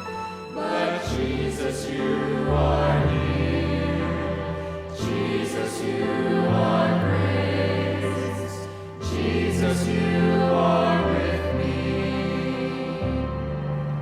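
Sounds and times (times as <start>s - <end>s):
choir singing worship song: 0.0s - 14.0s.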